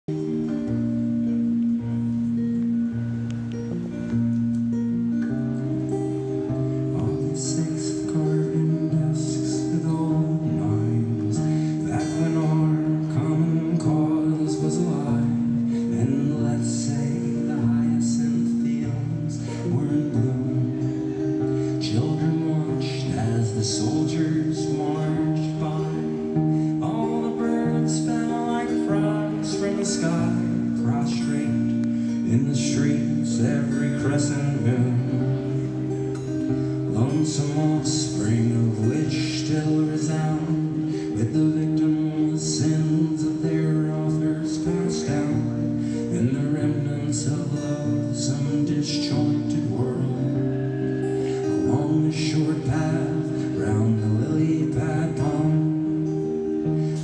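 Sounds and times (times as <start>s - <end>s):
acoustic guitar strumming: 0.1s - 57.0s.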